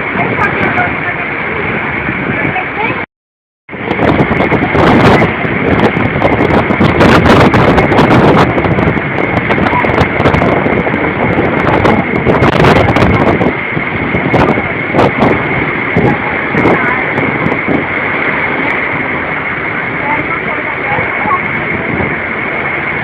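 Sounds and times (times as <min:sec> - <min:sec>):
storm wind on microphone: 0:00.0 - 0:03.1, 0:03.7 - 0:23.0.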